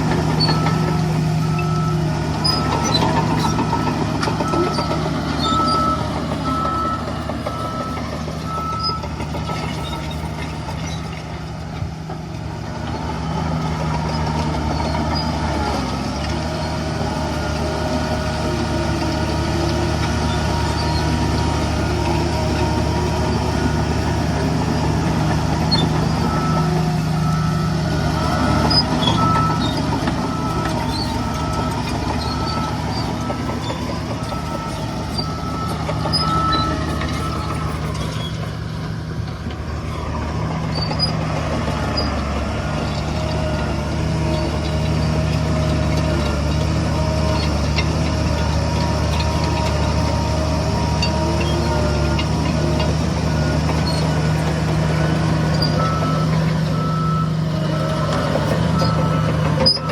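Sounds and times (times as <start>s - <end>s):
heavy diesel machinery running: 0.0s - 59.9s
reversing alarm beeping: 0.2s - 10.6s, 13.1s - 59.9s.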